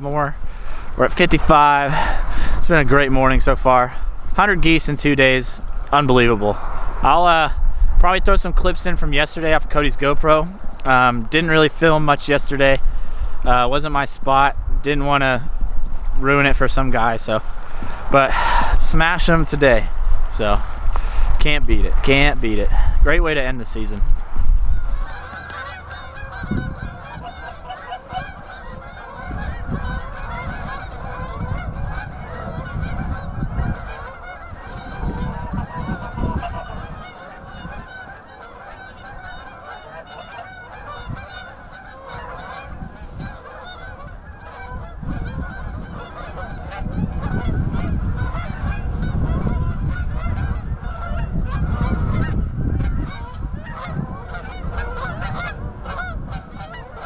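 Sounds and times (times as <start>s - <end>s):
geese honking: 0.0s - 12.8s, 16.2s - 57.0s.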